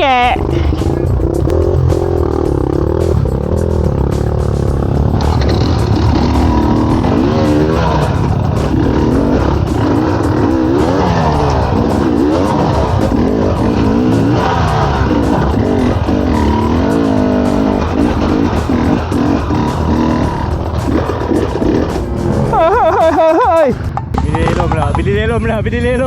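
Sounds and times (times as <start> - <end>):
dirt bike engine revving: 0.0 - 24.9
background music: 0.0 - 25.6.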